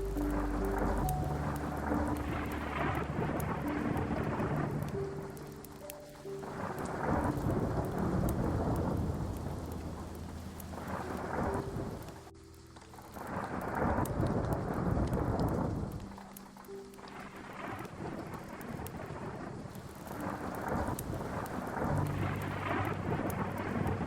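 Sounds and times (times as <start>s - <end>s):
thunder rumbling: 0.0s - 16.2s, 17.0s - 24.0s
heavy rain: 0.0s - 24.0s.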